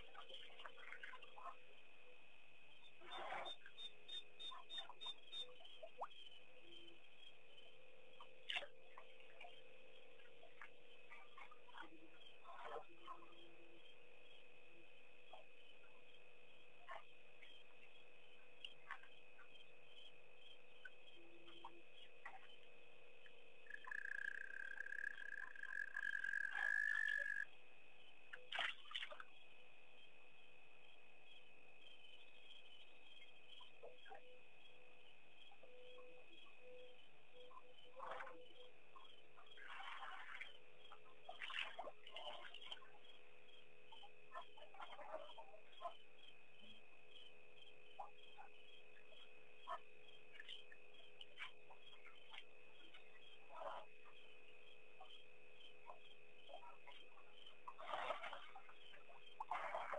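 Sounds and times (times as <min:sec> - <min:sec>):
crickets chirring: 0:00.0 - 0:59.9
night insect chorus: 0:00.0 - 0:59.9.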